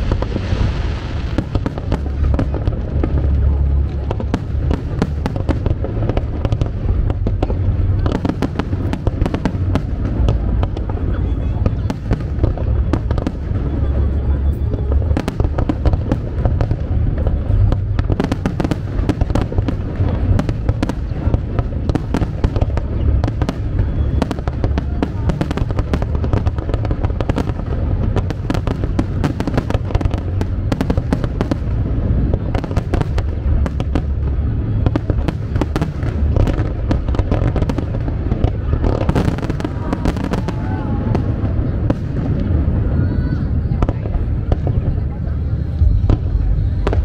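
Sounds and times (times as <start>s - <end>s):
deep booming: 0.0s - 47.0s
fireworks cracking and banging: 0.0s - 47.0s.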